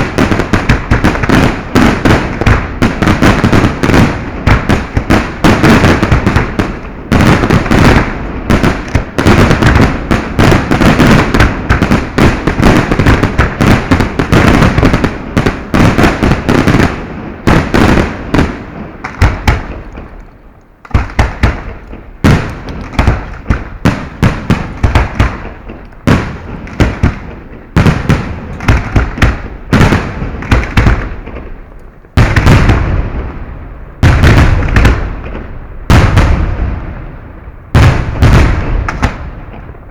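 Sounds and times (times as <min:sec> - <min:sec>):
fireworks explosions: 0:00.0 - 0:39.9.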